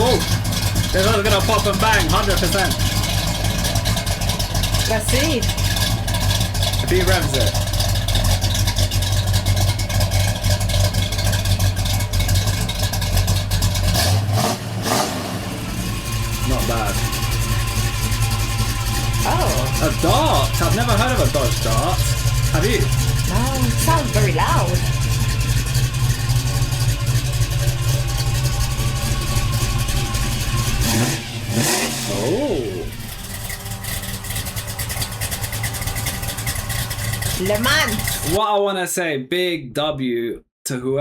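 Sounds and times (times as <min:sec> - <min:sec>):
car engine idling: 0:00.0 - 0:38.4.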